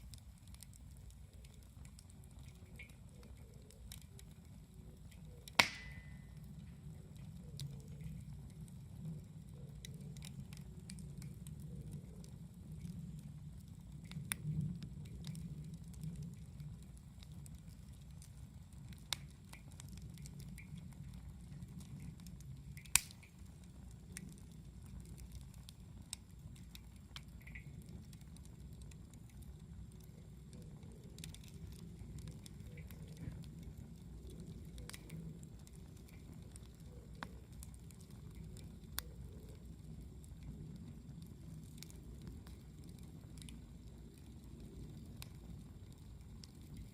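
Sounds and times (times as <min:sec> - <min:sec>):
campfire crackling and popping: 0:00.0 - 0:46.9
low steady rumble: 0:00.0 - 0:46.9.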